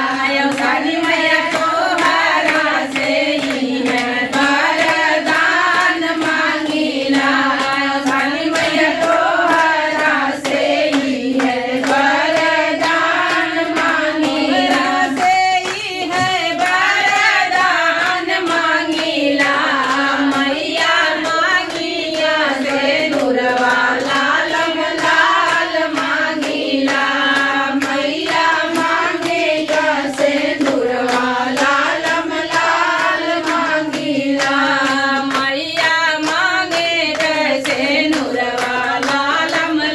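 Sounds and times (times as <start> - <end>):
hand claps: 0.0 - 39.9
women singing in unison: 0.0 - 39.9.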